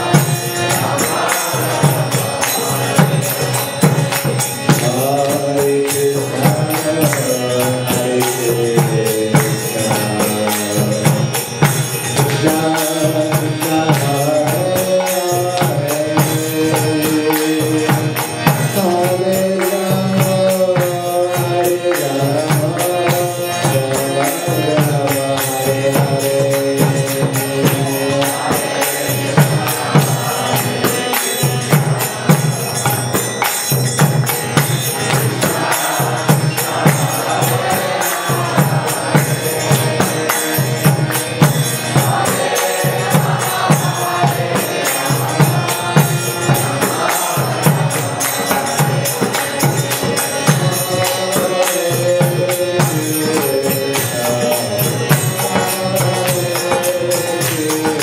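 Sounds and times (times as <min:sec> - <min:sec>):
harmonium playing chords: 0:00.0 - 0:58.0
percussion hits: 0:00.0 - 0:58.0.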